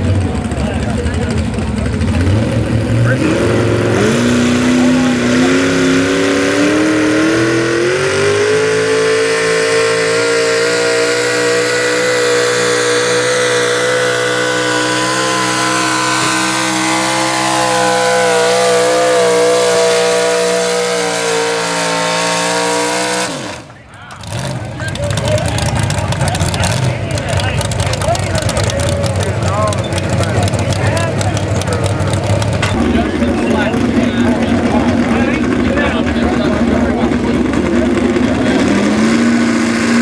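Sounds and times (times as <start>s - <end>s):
truck engine at full throttle: 0.0s - 40.0s.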